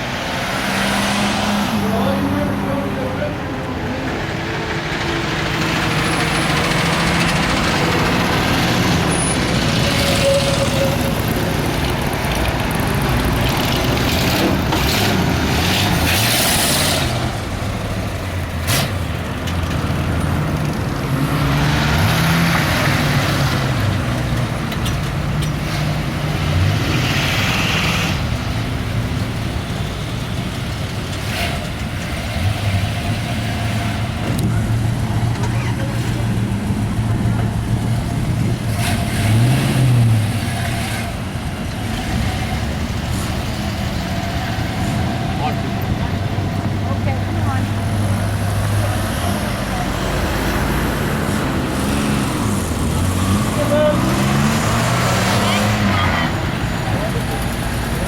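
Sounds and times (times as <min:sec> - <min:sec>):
car engines running: 0:00.0 - 0:58.0.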